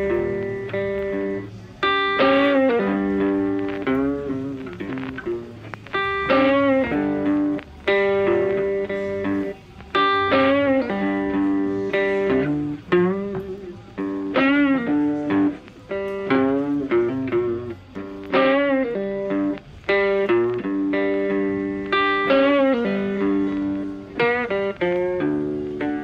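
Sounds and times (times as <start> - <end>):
instrumental guitar music: 0.0 - 26.0.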